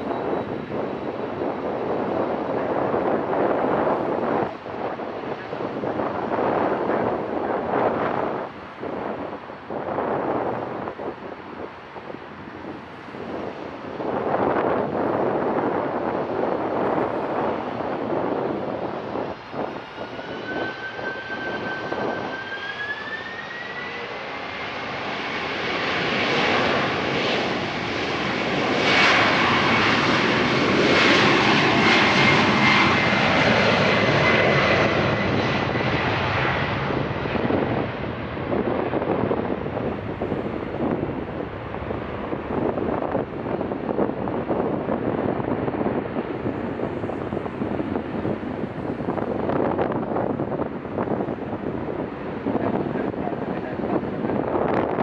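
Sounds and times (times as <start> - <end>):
jet engines roaring at takeoff: 0.0 - 55.0.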